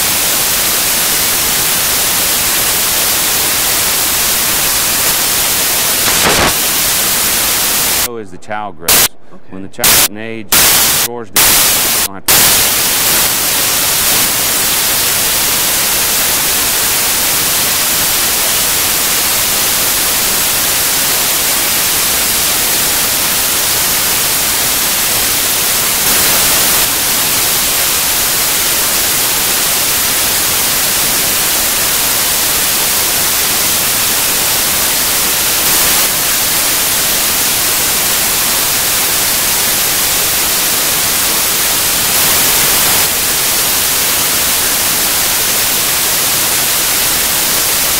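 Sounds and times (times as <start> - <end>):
loud static hiss: 0.0 - 47.9.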